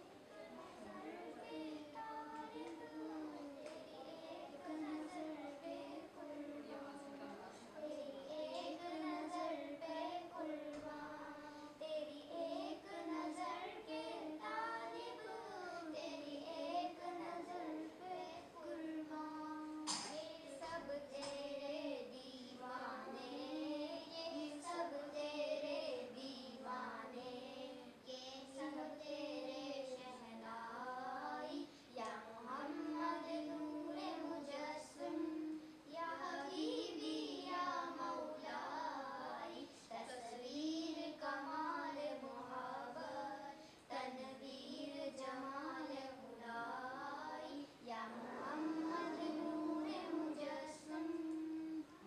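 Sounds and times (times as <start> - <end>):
girls singing unaccompanied: 0.0 - 52.0.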